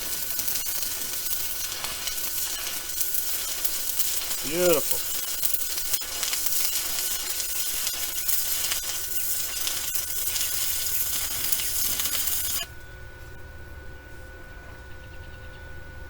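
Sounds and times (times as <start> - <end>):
welding arc crackling sizzle: 0.0 - 13.4.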